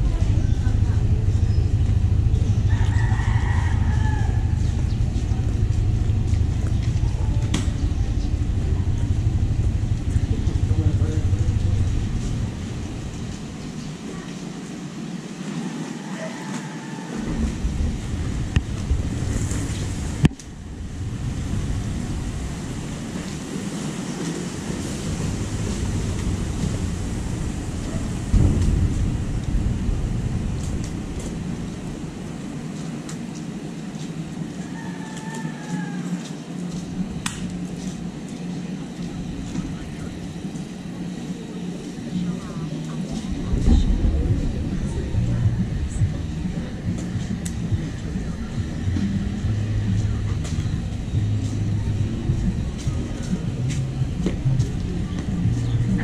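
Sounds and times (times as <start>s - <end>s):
engine rumbling: 0.0s - 56.0s
wind buffeting microphone: 0.0s - 56.0s.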